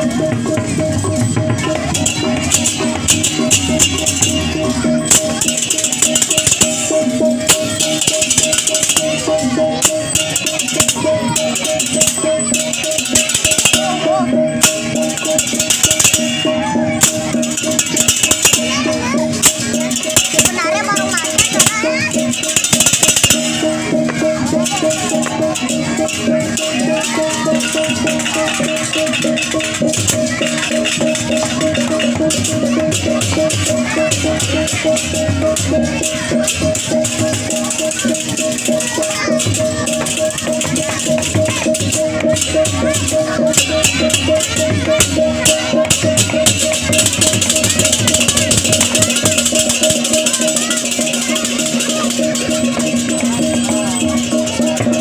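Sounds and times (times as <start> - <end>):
clashing cymbals: 0.0 - 55.0
metal-keyed instruments playing: 0.0 - 55.0
repeated metallic note: 0.0 - 55.0.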